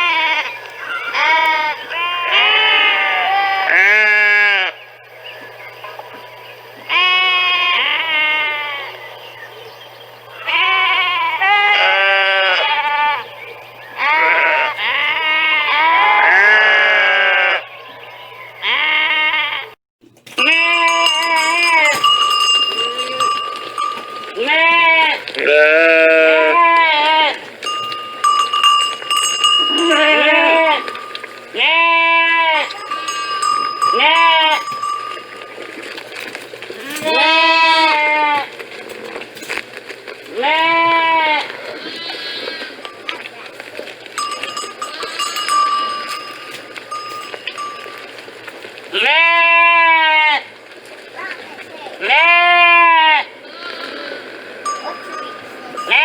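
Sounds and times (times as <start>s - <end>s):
sheep bleating: 0.0s - 4.8s, 6.8s - 9.0s, 10.4s - 13.3s, 14.0s - 17.7s, 18.6s - 19.8s, 20.4s - 36.0s, 36.6s - 38.6s, 40.3s - 43.6s, 44.2s - 48.0s, 48.9s - 50.6s, 52.0s - 56.0s.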